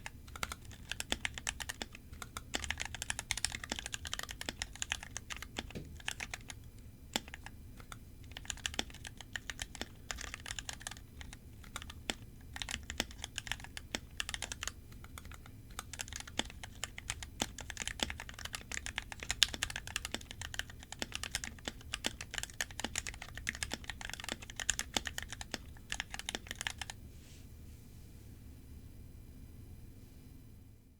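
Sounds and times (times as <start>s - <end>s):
mechanical keyboard typing: 0.0s - 27.0s.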